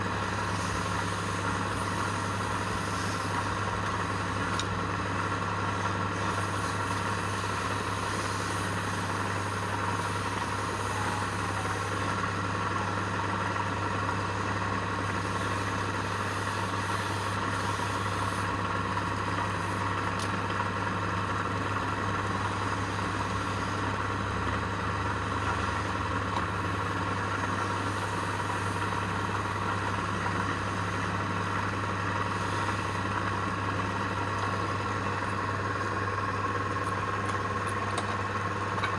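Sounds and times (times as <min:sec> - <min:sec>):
lathe motor hum: 0:00.0 - 0:38.9.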